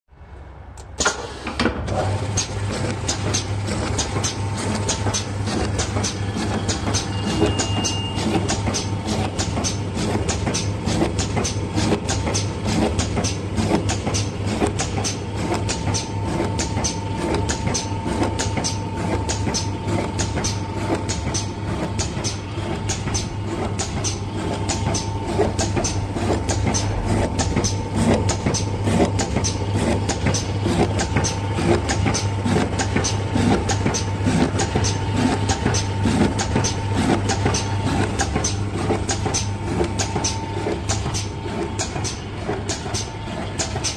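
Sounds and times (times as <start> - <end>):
machine motor hum with whine: 1.5 - 43.9
sharp machine clicks: 2.3 - 43.9.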